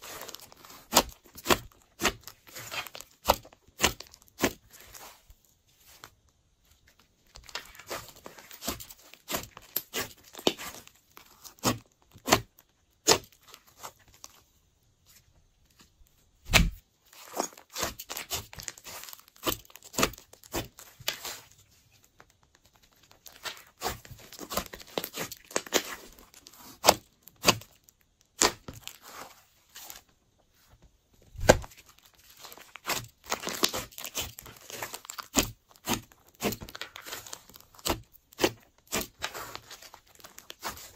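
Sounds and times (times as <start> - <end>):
slime squelching and crackling: 0.0 - 5.2, 7.2 - 14.4, 16.5 - 30.0, 31.3 - 40.9.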